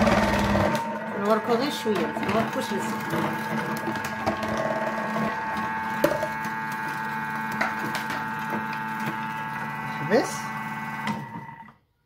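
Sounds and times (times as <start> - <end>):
food processor motor whine: 0.0 - 12.0.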